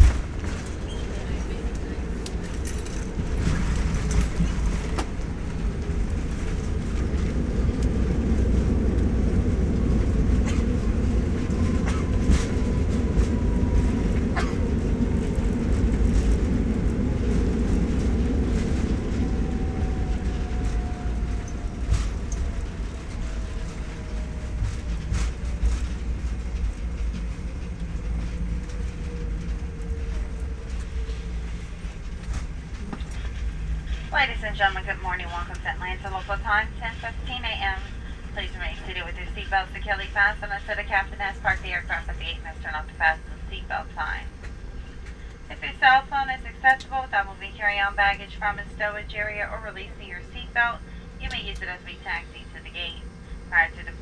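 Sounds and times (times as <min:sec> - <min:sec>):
jet engine and wheels rumble: 0:00.0 - 0:54.0.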